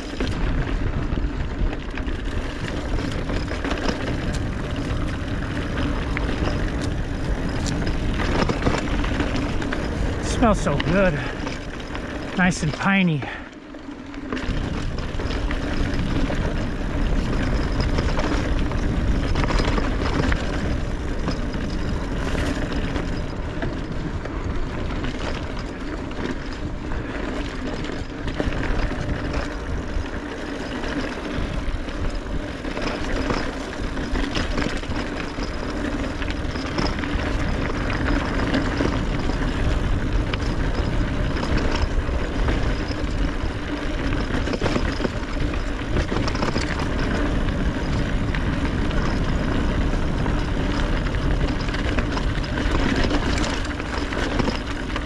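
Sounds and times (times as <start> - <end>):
bike clicks and rattles: 0.0 - 55.0
bike rolling on dirt trail: 0.0 - 55.0
wind buffeting microphone: 0.0 - 55.0.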